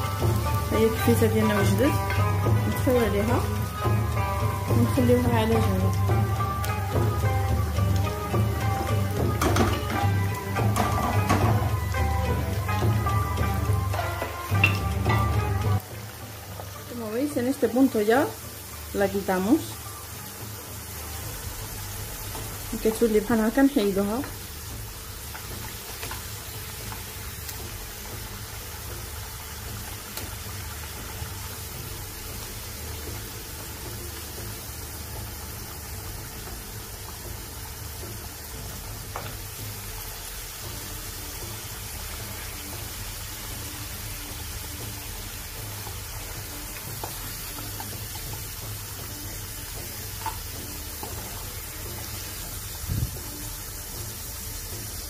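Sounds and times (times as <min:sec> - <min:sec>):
potato slices sizzling in oil: 0:00.0 - 0:55.0.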